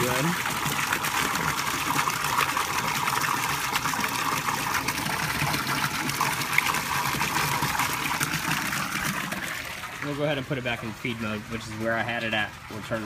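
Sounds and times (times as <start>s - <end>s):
water pouring into a tub: 0.0s - 13.0s.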